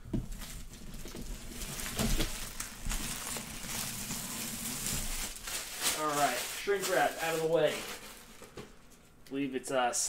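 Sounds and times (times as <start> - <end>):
plastic shrink wrap crinkling: 0.2 - 9.2.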